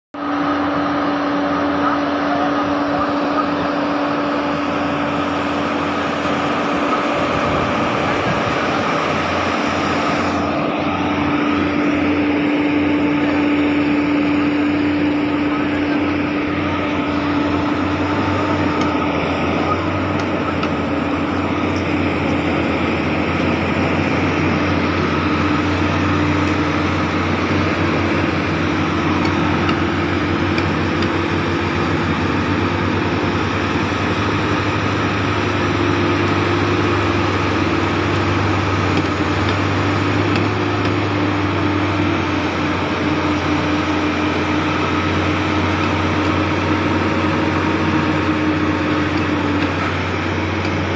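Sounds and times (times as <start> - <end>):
heavy diesel engines droning: 0.2 - 50.9.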